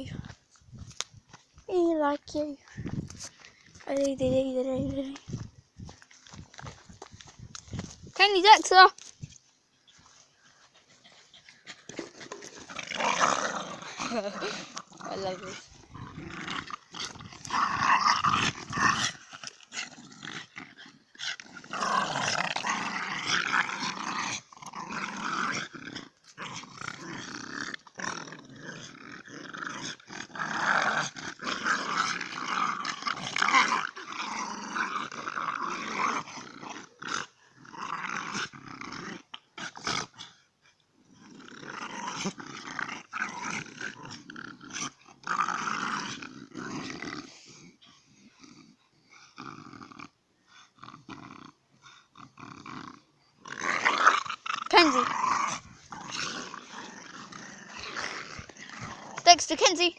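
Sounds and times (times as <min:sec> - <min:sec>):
dogs growling in play: 0:09.8 - 0:59.9.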